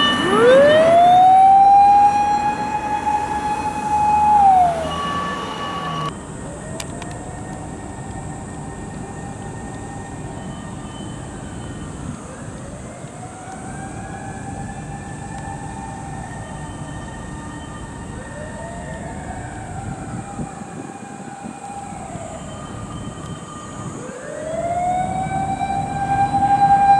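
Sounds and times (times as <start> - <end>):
mechanical motor sirens wailing: 0.0 - 26.9.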